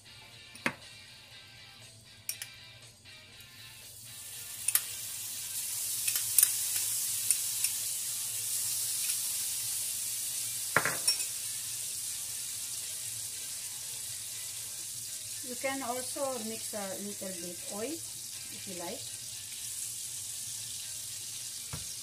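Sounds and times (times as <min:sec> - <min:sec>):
butter sizzling in a frying pan: 0:03.4 - 0:22.0.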